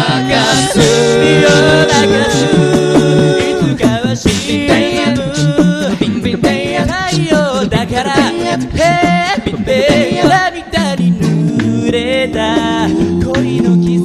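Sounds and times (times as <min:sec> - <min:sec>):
beatboxed percussion: 0:00.0 - 0:14.0
male a cappella singing: 0:00.0 - 0:14.0.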